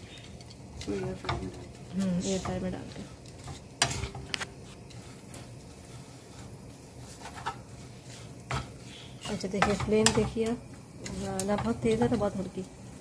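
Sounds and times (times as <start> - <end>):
spatula scraping frying pan: 0.0 - 12.5.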